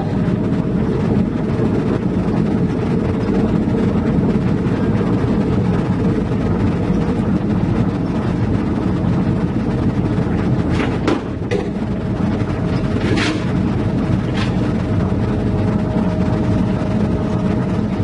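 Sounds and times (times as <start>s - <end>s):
faint steady whine: 0.0s - 18.0s
heavy diesel engine rumbling: 0.0s - 18.0s.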